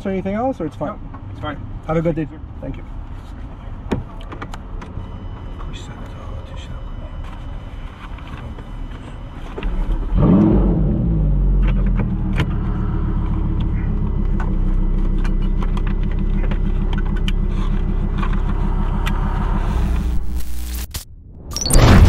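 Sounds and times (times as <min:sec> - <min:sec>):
car engine starting and idling: 0:04.3 - 0:22.0.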